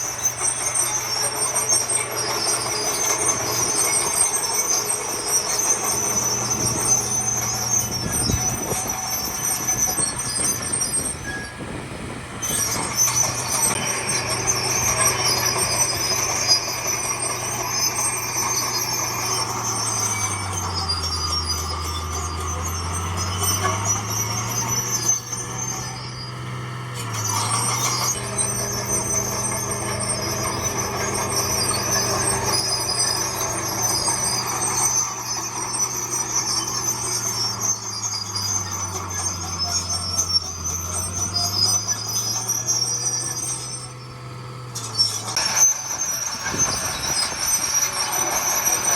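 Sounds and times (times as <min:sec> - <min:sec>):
heavy diesel machine engine: 0:00.0 - 0:48.9
high metallic squeal: 0:00.0 - 0:48.9.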